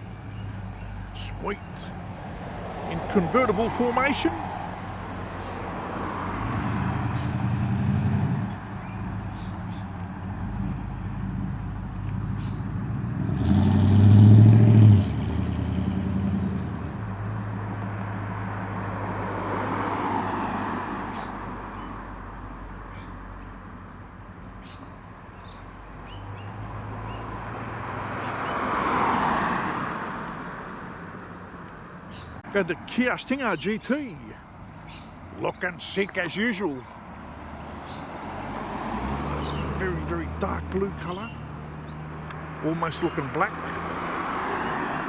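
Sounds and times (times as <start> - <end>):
cars passing slowly: 0.0 - 45.0.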